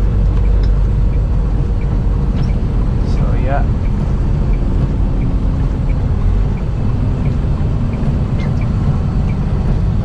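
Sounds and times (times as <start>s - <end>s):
truck engine and road rumble: 0.0s - 10.0s.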